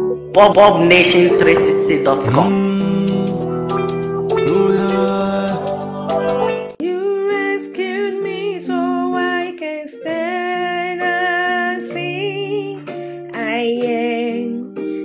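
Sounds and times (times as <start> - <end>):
woman singing worship song: 1.4 - 3.4, 4.5 - 15.0.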